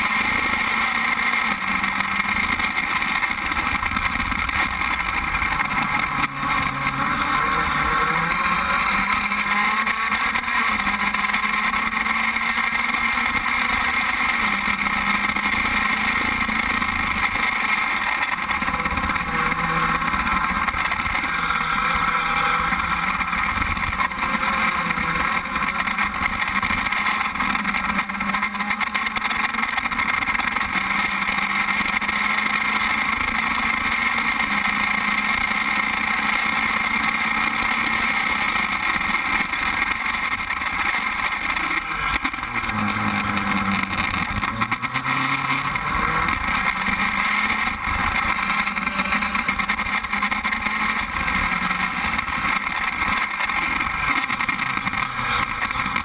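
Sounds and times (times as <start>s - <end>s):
race car engine running: 0.0s - 56.0s
wind and road noise: 0.0s - 56.0s.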